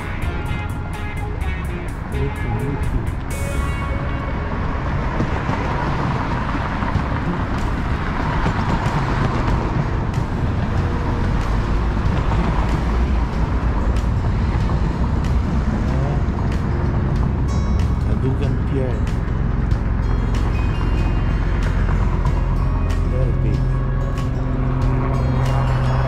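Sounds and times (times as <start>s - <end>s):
cars driving past: 0.0s - 26.0s
steady low traffic rumble: 0.0s - 26.0s.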